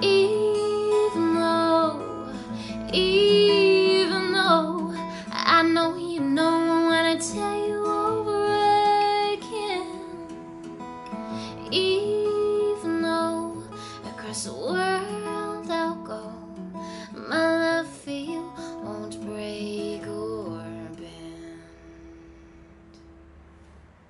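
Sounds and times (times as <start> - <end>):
woman singing: 0.0 - 10.6, 11.2 - 21.9
acoustic guitar: 0.0 - 24.0.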